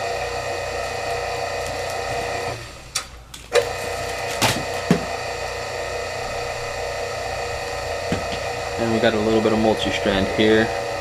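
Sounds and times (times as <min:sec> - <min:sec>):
small electric motor humming: 0:00.0 - 0:11.0.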